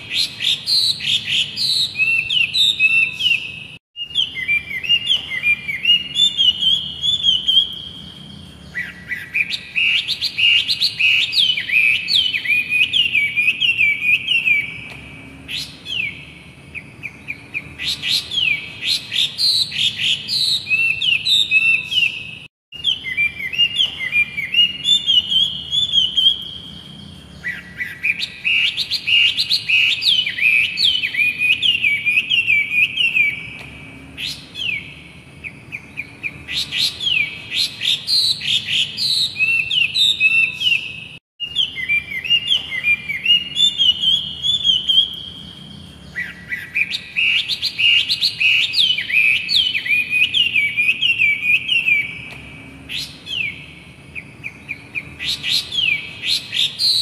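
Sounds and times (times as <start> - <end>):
bird singing whistled notes: 0.0 - 57.0.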